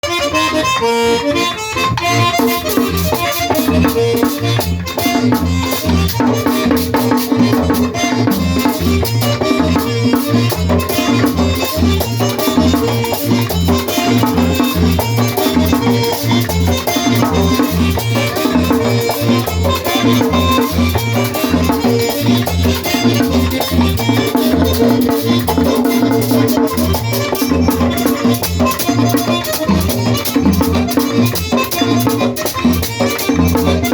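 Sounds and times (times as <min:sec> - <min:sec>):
fast drum beat: 0:02.4 - 0:33.9.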